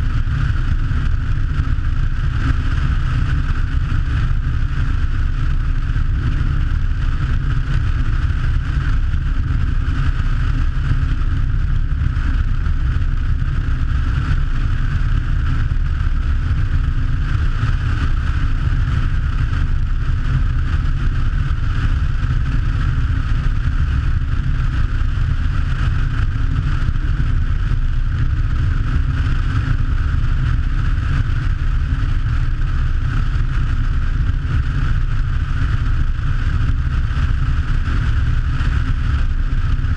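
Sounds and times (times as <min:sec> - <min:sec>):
twin aircraft engines rumbling: 0:00.0 - 0:39.9.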